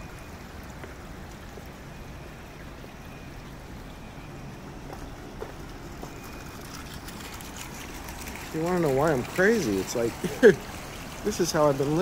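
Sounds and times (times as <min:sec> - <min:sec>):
flowing water rushing: 0:00.0 - 0:12.0
low city rumble: 0:00.0 - 0:12.0.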